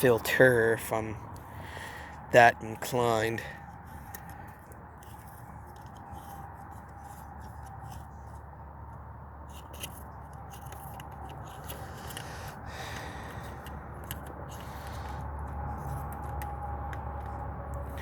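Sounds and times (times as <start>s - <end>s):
steady low hum: 0.0s - 18.0s
hands handling parts: 1.3s - 18.0s.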